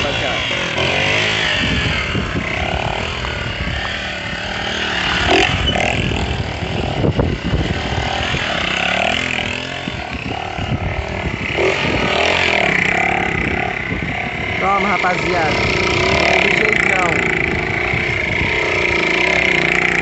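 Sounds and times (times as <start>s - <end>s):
small motorcycle engine revving: 0.0s - 20.0s.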